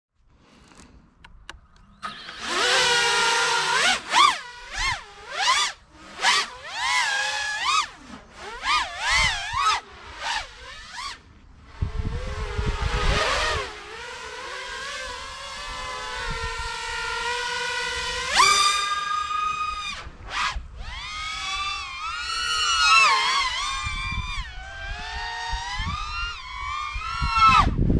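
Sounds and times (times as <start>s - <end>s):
quadcopter motors whining: 1.8s - 27.9s.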